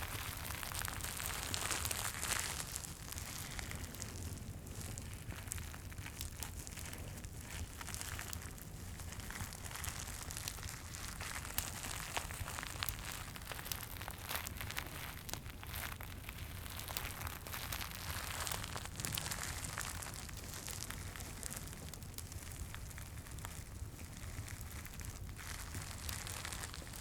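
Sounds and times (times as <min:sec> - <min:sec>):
crinkling and crackling: 0:00.0 - 0:27.0
low fireplace rumble: 0:00.0 - 0:27.0.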